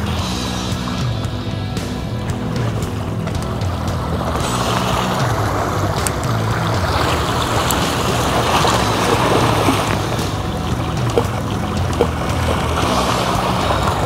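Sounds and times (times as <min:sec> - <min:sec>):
low hum: 0:00.0 - 0:14.0
sea water rushing: 0:00.0 - 0:14.0.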